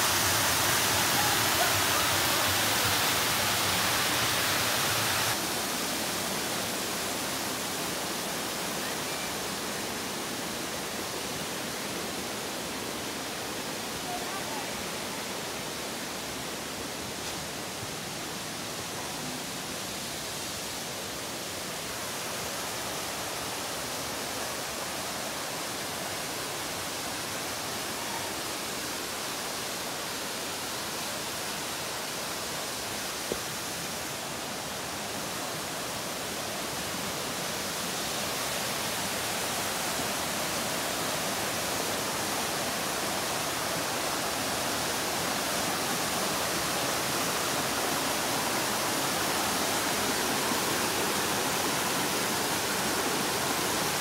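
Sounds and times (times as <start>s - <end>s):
mountain brook rushing: 0.0s - 54.0s
waterfall cascading over rock: 0.0s - 54.0s.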